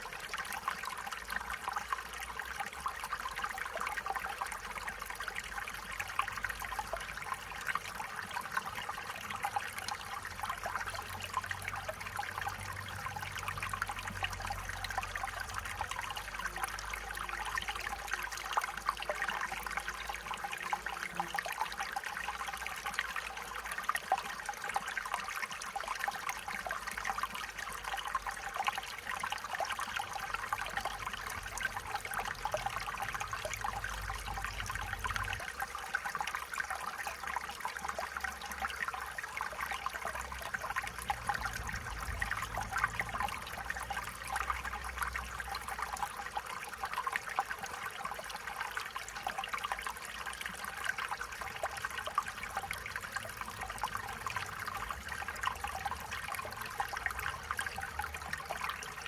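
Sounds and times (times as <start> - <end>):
stream water burbling over stones: 0.0 - 59.0.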